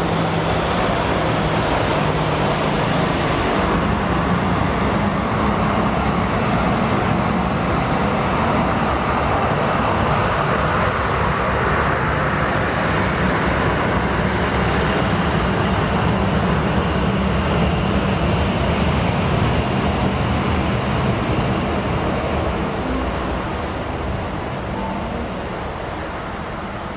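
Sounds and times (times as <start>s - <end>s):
jet engines taxiing: 0.0s - 26.9s.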